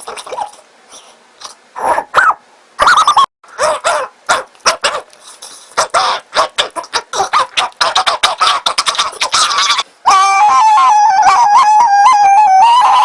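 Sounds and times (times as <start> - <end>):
sped-up person imitating dog barks: 1.8 - 5.1, 5.8 - 13.0.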